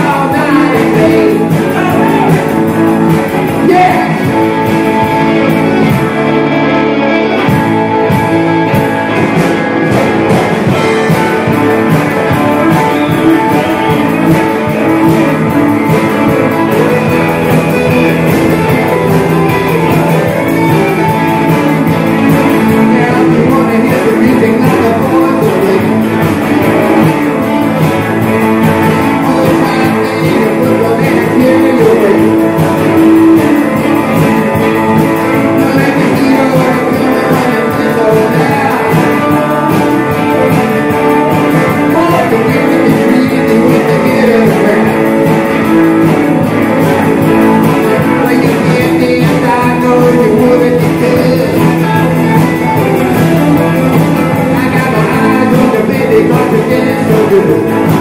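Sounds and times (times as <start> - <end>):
rock and roll music: 0.0 - 58.0.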